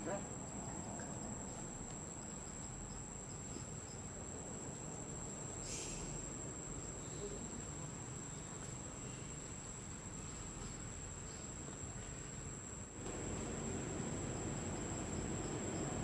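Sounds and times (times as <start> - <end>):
crickets chirping: 0.0 - 16.0
low rumbling background noise: 0.0 - 16.0.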